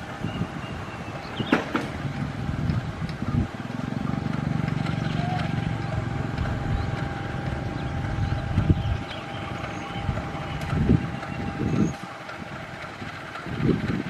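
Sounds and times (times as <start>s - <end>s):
locomotive engine idling rumble: 0.0s - 14.0s
thin constant whine: 0.0s - 14.0s.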